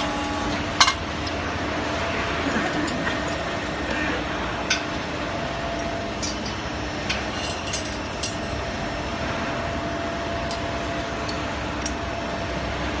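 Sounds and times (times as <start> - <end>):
punching machine running with whine: 0.0 - 13.0.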